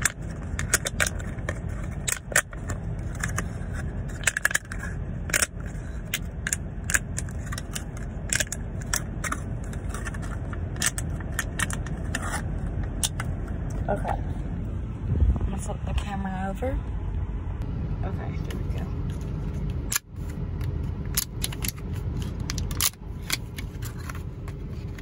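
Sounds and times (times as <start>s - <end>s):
car cabin rumble: 0.0s - 25.0s.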